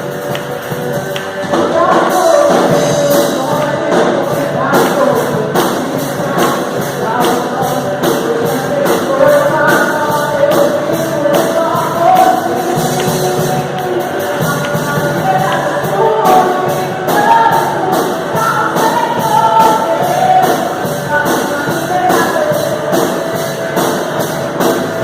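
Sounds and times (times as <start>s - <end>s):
band playing worship song: 0.0s - 25.0s
person singing: 0.0s - 25.0s.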